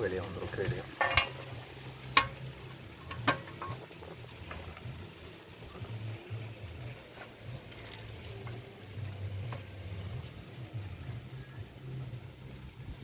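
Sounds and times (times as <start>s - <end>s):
oil trickling and dripping: 0.0s - 13.0s.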